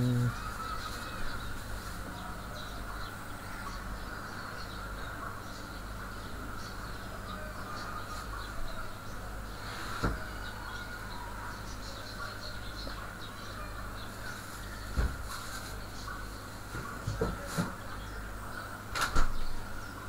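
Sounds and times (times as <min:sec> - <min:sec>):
room tone hum and hiss: 0:00.0 - 0:20.0.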